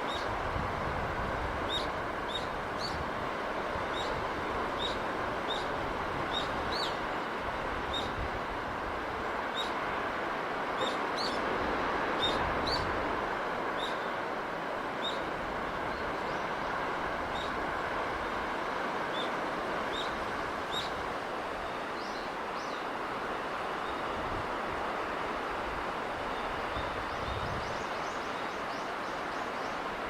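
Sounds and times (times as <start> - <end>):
sea breeze rushing: 0.0 - 30.0.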